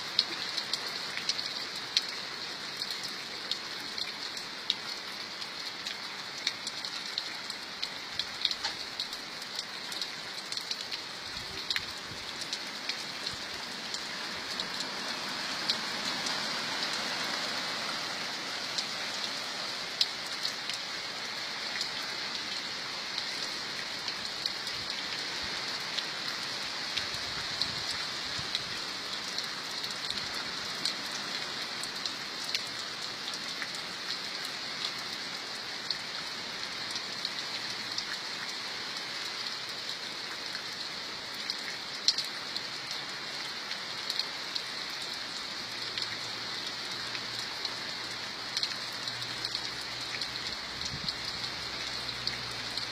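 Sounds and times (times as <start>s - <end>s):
raindrops ticking close by: 0.0s - 52.9s
steady rainfall hiss: 0.0s - 52.9s.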